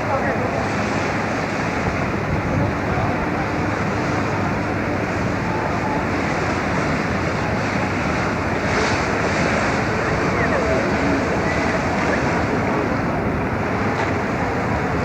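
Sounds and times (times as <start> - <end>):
boat engine rumble: 0.0 - 15.0
water rushing: 0.0 - 15.0
wind buffeting microphone: 0.0 - 15.0.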